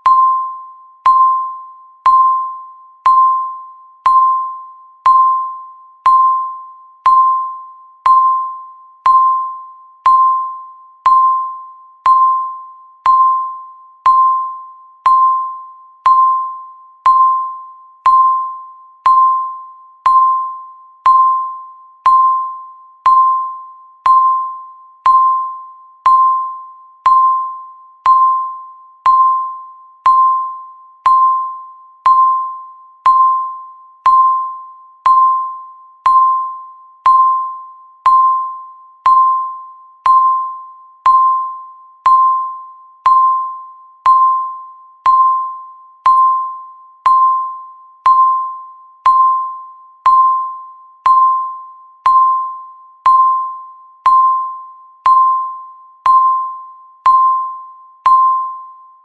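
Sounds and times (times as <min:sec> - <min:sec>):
timer bell-like ping: 0:00.0 - 0:59.0.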